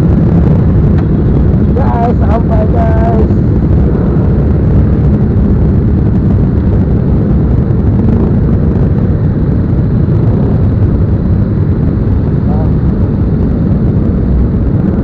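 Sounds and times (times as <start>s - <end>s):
motorcycle running: 0.0s - 15.0s
wind rushing on microphone: 0.0s - 15.0s.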